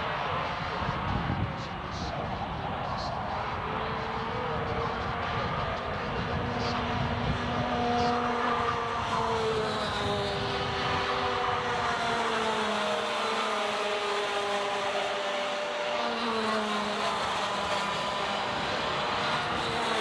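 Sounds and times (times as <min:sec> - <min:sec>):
go-kart engines racing: 0:00.0 - 0:20.0.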